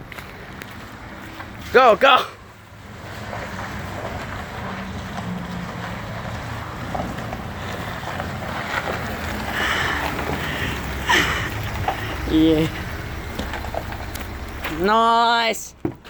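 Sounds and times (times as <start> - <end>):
truck engine and tyres: 0.0 - 16.0
water splashing under wheels: 0.0 - 16.0.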